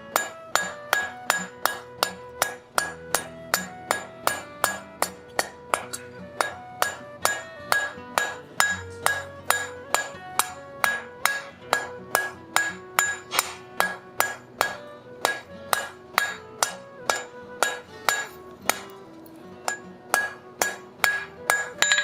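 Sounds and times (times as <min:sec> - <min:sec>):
hammer striking hot steel: 0:00.0 - 0:22.0.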